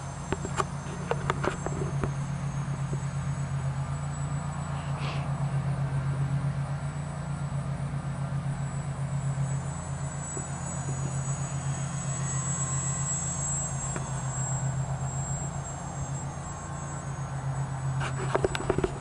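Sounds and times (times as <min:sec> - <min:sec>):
model plane motor drone: 0:00.0 - 0:19.0.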